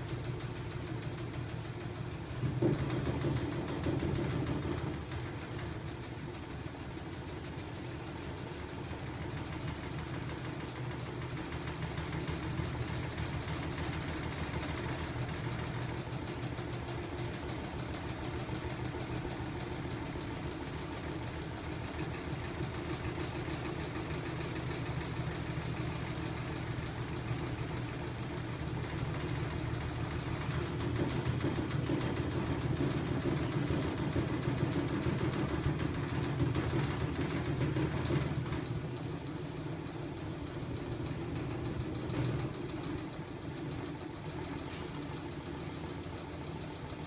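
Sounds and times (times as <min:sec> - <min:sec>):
mechanical hum with fast rattle: 0:00.0 - 0:47.0.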